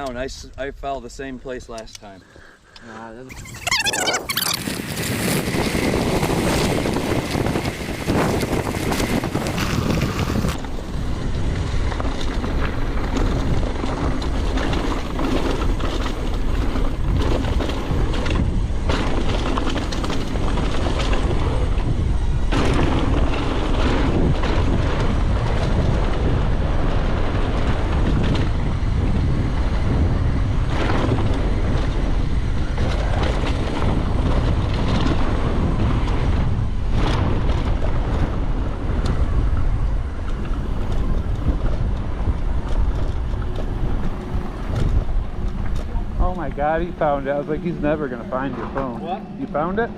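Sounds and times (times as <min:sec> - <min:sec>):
wind buffeting microphone: 0:03.2 - 0:49.9
bike rattling on dirt trail: 0:03.3 - 0:49.9
bike knocking over bumps: 0:05.2 - 0:48.0.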